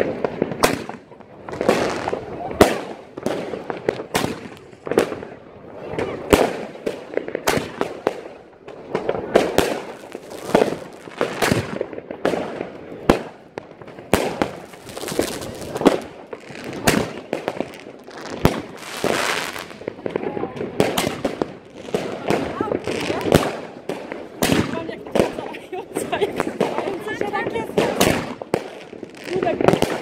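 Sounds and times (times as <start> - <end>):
firecrackers crackling: 0.0 - 30.0
firework bangs: 0.0 - 30.0.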